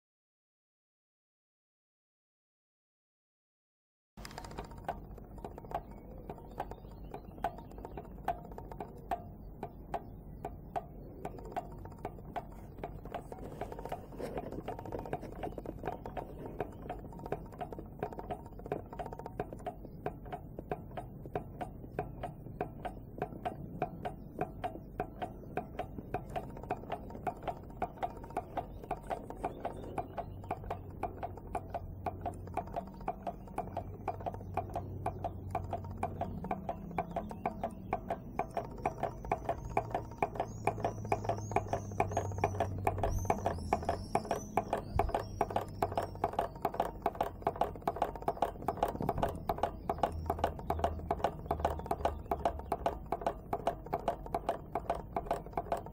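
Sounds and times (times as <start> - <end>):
small engine clicking rapidly: 4.2 - 55.9.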